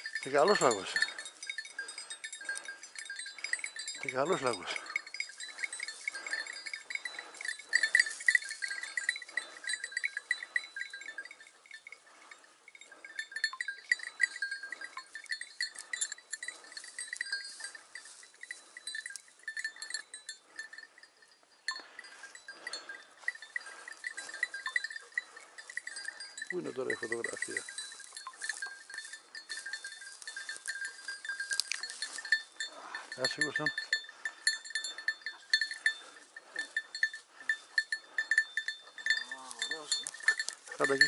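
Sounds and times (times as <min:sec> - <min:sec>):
collar bells jingling: 0:00.0 - 0:41.0.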